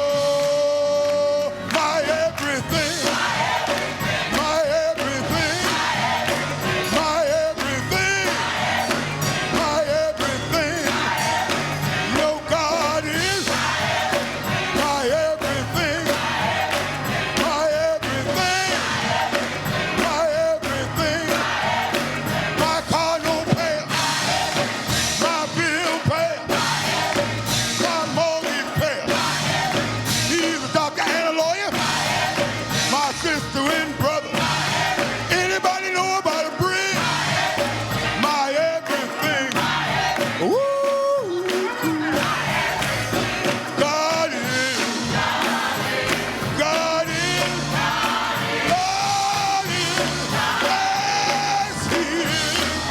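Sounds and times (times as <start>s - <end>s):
gospel singing with full band: 0.0s - 52.9s.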